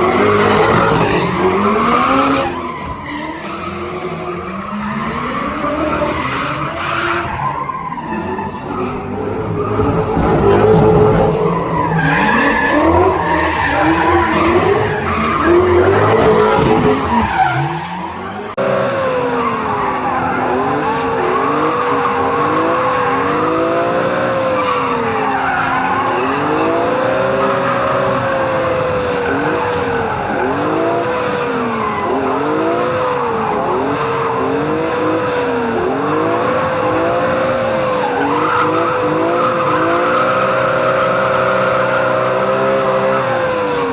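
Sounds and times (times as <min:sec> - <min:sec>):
car engines revving: 0:00.0 - 0:43.9
tyres skidding and squealing: 0:00.0 - 0:43.9.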